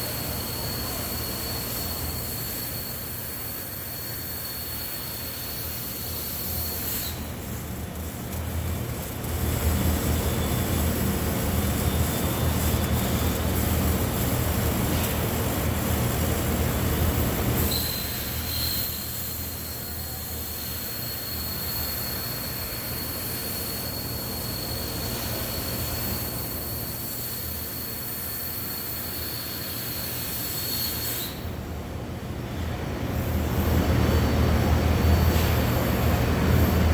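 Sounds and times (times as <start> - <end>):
welding arc buzzing and crackling: 0.0 - 31.4
thin high whine: 0.0 - 32.0.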